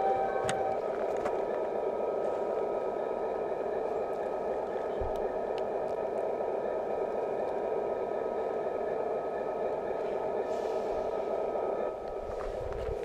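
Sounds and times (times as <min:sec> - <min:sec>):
faint whine: 0:00.0 - 0:13.0
model train rolling hum: 0:00.0 - 0:13.0.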